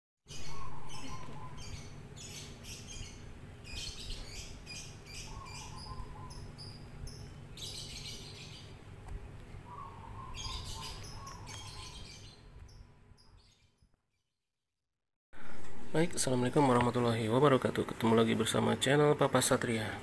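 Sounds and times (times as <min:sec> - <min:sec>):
birds chirping: 0:00.3 - 0:13.9, 0:15.8 - 0:20.0.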